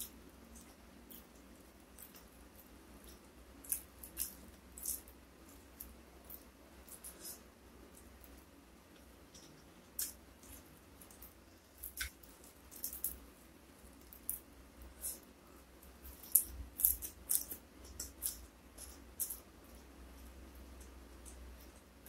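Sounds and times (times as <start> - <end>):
person chewing with crunches: 0.0 - 13.2, 13.8 - 21.9.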